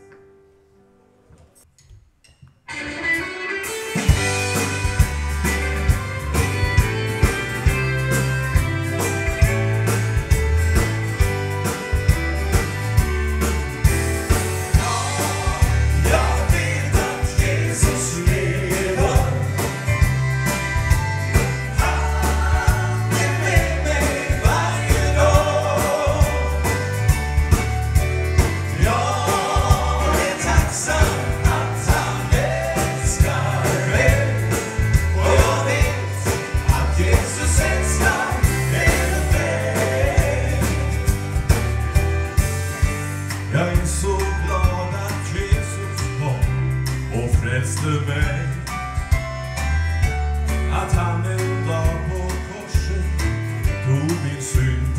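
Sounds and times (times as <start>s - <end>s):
gospel choir singing with band: 4.0s - 49.7s
bass line: 4.0s - 54.9s
steady drum beat: 4.0s - 54.9s.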